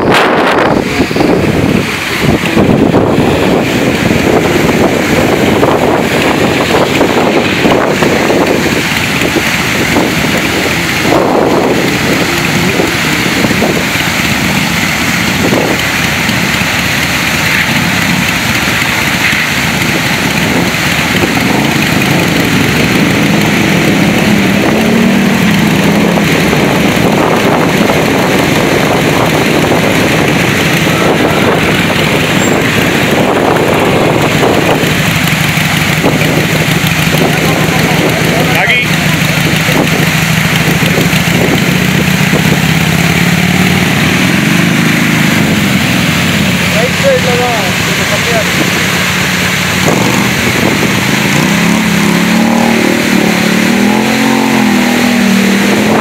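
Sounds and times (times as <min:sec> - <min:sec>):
wind on microphone: 0:00.0 - 0:46.9, 0:47.7 - 0:56.0
motorcycle engines running: 0:00.0 - 0:56.0
water rushing: 0:00.0 - 0:56.0.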